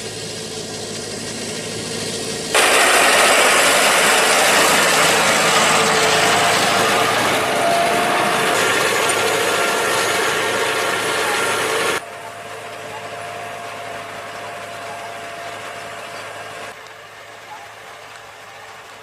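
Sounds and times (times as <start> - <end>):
tractor engine: 0.0 - 19.0.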